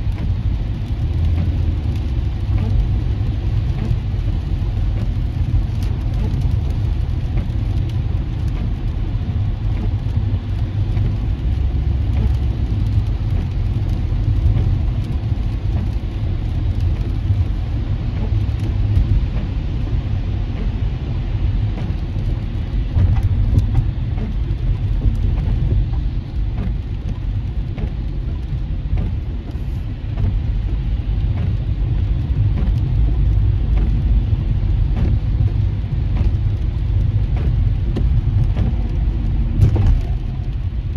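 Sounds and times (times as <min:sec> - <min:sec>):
rain hitting a car: 0:00.0 - 0:40.9
road noise rumble inside car: 0:00.0 - 0:40.9.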